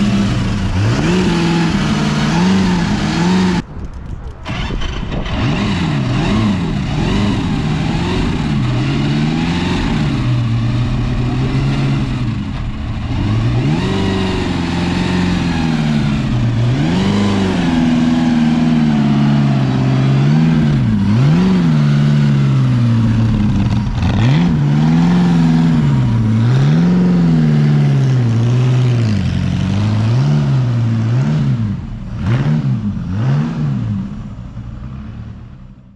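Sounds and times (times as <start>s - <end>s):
car engine revving: 0.0s - 3.7s, 4.4s - 35.8s.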